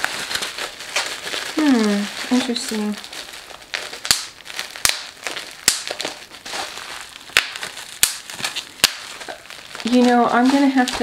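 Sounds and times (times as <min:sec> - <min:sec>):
bubble wrap crinkling: 0:00.0 - 0:11.0
bubble wrap popping: 0:00.0 - 0:11.0.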